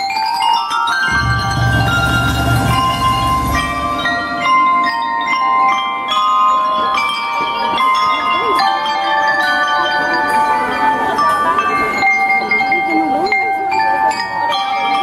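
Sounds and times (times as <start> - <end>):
glockenspiel melody with mallets: 0.0 - 15.0.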